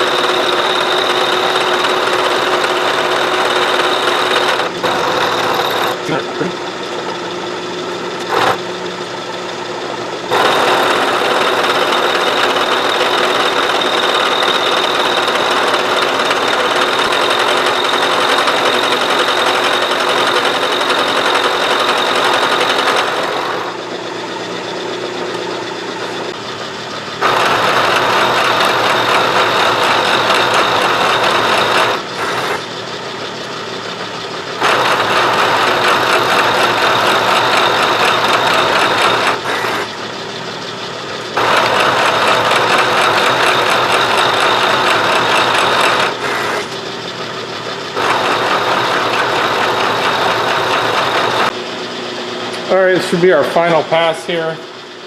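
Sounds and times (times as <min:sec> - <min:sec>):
milling machine cutting metal: 0:00.0 - 0:51.7.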